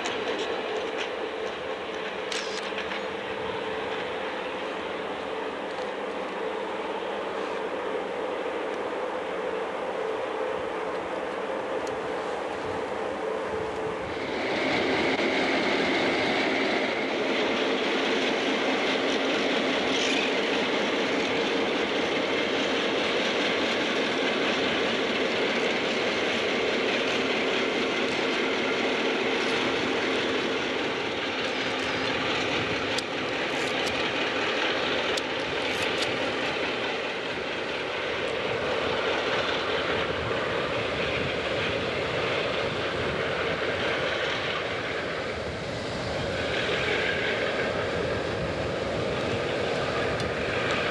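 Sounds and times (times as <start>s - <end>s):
train wheels clattering on rail: 0.0s - 8.9s, 10.8s - 50.9s
diesel locomotive engines droning: 0.0s - 50.9s.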